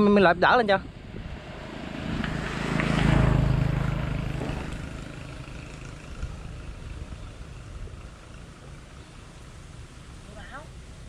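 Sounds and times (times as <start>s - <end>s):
motor engine passing by: 0.8s - 11.0s.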